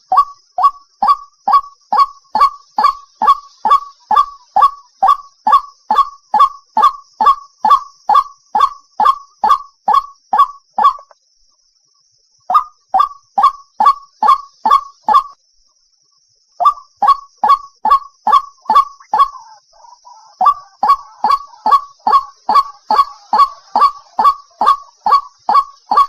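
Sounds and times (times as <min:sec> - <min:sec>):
waterhen calls: 0:00.0 - 0:11.1, 0:12.5 - 0:15.4, 0:16.6 - 0:26.0.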